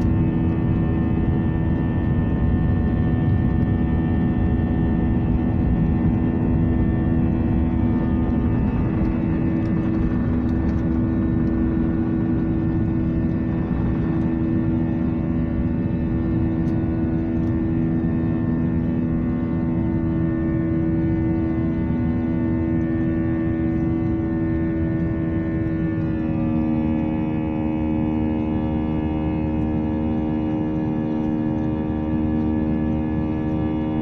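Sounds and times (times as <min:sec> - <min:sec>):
jet engines roaring in cabin: 0:00.0 - 0:34.0.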